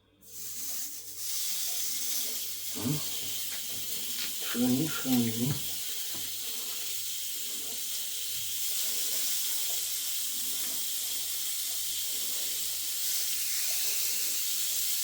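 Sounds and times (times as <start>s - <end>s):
chicken frying in hot oil: 0.3s - 15.0s.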